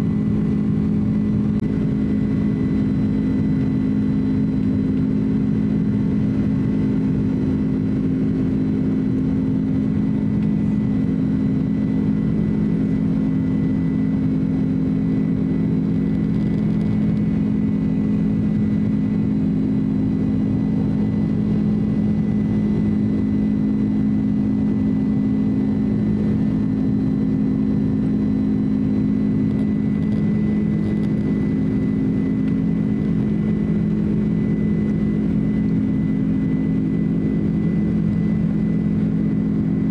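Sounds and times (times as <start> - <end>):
high engine whine: 0.0 - 39.9
jet engine drone in cabin: 0.0 - 39.9.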